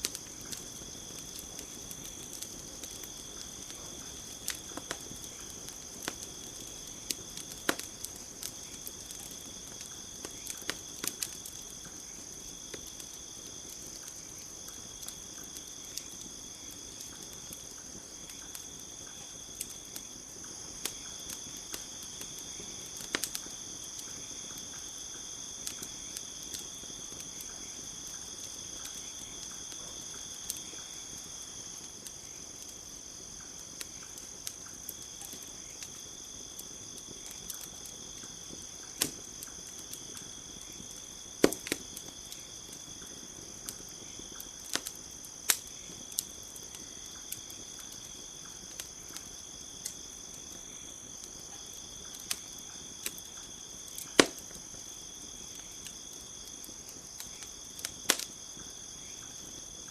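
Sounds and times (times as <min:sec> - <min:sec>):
campfire crackling and popping: 0:00.0 - 0:59.9
crickets chirping: 0:00.0 - 0:59.9.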